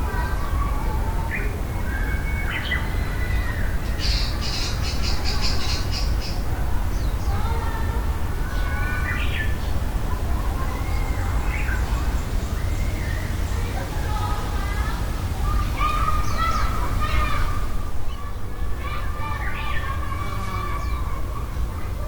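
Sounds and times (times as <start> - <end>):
wild birds calling and singing: 0.1 - 22.0.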